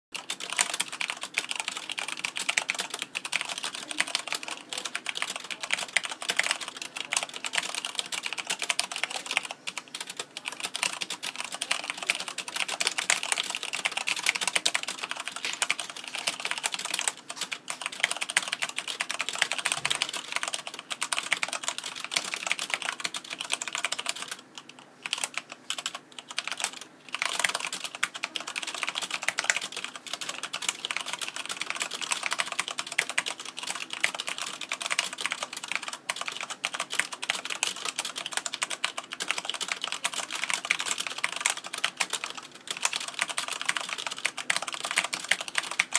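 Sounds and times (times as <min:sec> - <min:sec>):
mechanical keyboard typing: 0:00.2 - 0:45.9.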